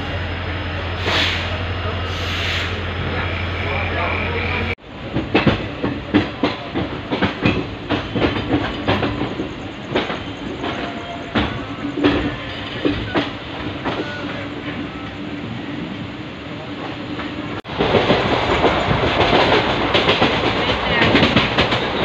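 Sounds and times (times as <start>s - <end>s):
train rumble: 0.0s - 22.0s
train wheels clacking on track: 2.2s - 15.2s, 17.2s - 22.0s.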